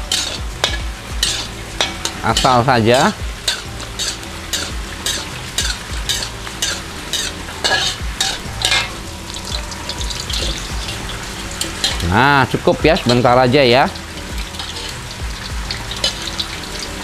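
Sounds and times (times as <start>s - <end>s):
garlic and chillies sizzling in oil: 0.0s - 17.0s
metal spatula scraping wok: 0.0s - 17.0s.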